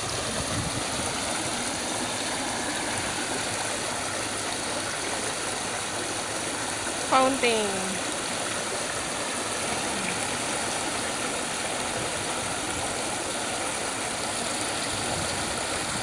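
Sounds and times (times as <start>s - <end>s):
fountain water splashing into pool: 0.0s - 16.0s.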